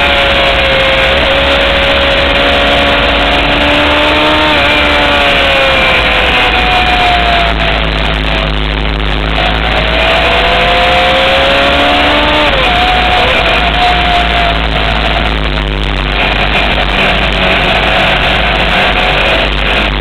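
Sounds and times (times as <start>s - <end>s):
heavy wind noise: 0.0s - 20.0s
motorcycle engine accelerating: 0.0s - 20.0s.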